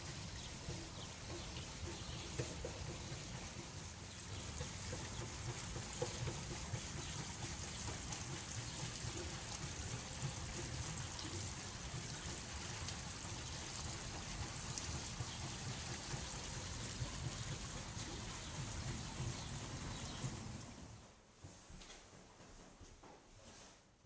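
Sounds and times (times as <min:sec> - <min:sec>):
fountain water bubbling and splashing: 0:00.0 - 0:20.7.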